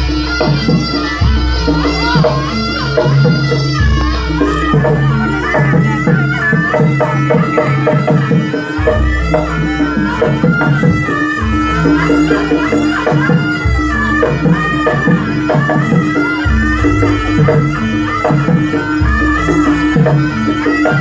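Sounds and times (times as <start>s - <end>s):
reed shawm melody: 0.0s - 21.0s
steady drumming: 0.0s - 21.0s.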